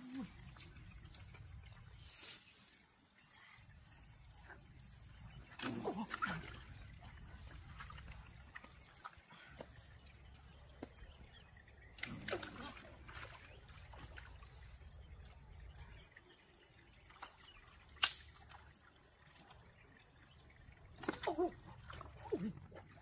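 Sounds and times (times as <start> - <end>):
stream water trickling: 0.0 - 23.0.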